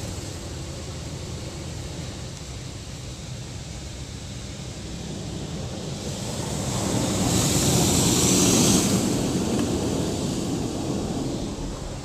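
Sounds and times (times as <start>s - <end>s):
water jets spraying on car: 0.0s - 12.0s.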